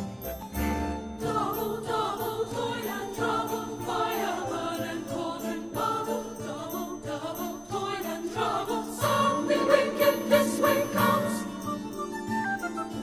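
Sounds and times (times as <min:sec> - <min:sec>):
jingling bells: 0:00.0 - 0:13.0
wavering sung melody: 0:00.0 - 0:13.0.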